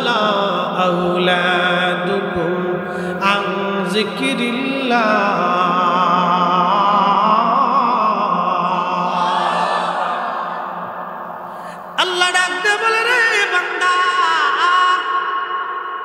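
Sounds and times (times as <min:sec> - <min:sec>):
man chanting melodically: 0:00.0 - 0:09.5, 0:11.8 - 0:16.0.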